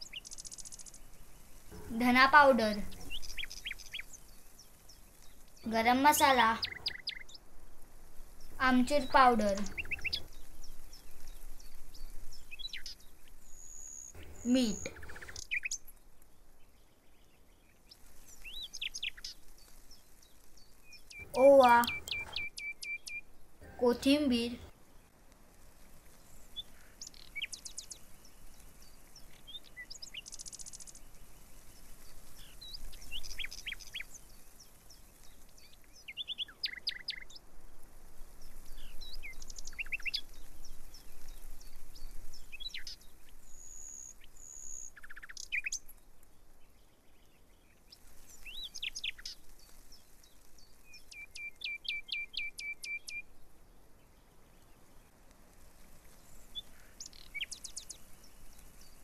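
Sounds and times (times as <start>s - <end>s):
birds chirping: 0.0s - 25.2s, 25.9s - 37.6s, 38.2s - 55.2s, 56.0s - 59.0s.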